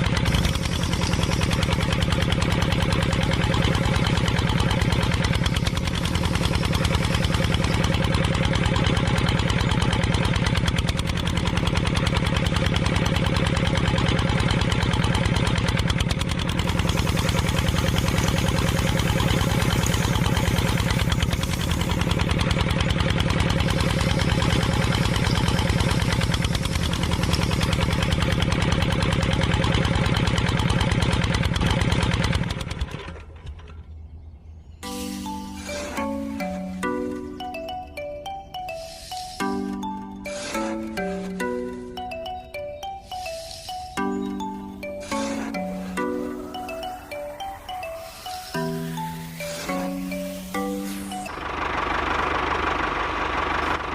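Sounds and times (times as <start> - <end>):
engine running with fast beat: 0.0 - 33.2, 34.8 - 53.9.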